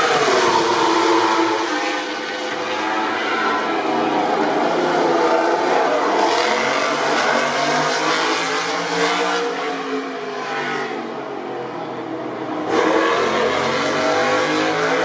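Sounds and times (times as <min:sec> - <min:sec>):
racing motorcycle engines revving: 0:00.0 - 0:11.1, 0:12.5 - 0:15.0.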